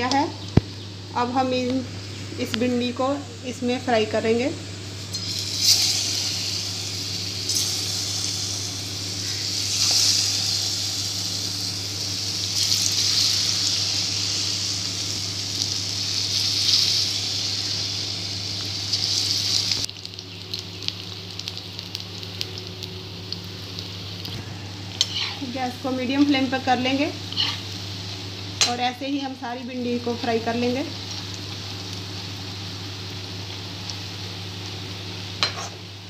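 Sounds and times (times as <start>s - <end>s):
food sizzling in hot oil: 0.0s - 36.0s
steady low hum: 0.0s - 36.0s
oil bubbling with crackles: 4.9s - 29.0s, 29.7s - 36.0s.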